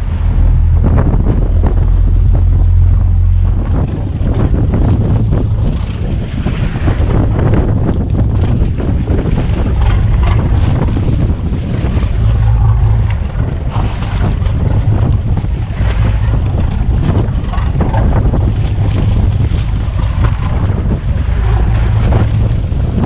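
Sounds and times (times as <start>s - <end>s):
low rumble: 0.0s - 23.0s
wind buffeting microphone: 0.0s - 23.0s
knocks and splashes: 0.6s - 23.0s.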